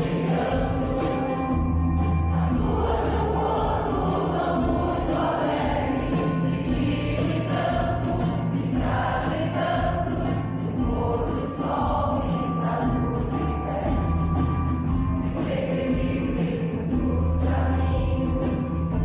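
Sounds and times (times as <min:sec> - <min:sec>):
choir singing with instruments: 0:00.0 - 0:19.0
light percussion beat: 0:00.0 - 0:19.0.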